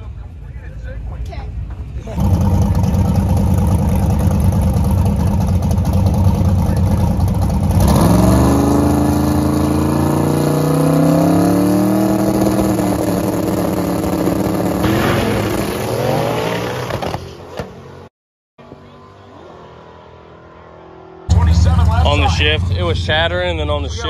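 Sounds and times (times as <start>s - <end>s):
drag car engine revving: 2.0s - 17.4s, 19.2s - 24.0s.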